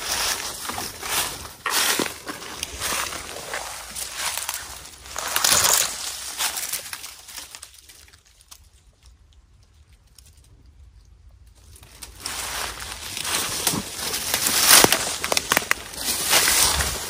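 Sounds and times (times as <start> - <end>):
footsteps crunching through dry leaves: 0.0 - 8.7, 11.6 - 17.0.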